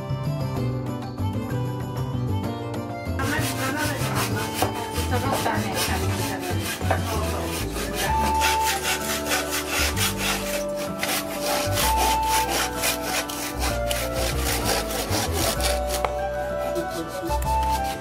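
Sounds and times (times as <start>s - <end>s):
hand saw cutting wood: 3.2s - 18.0s.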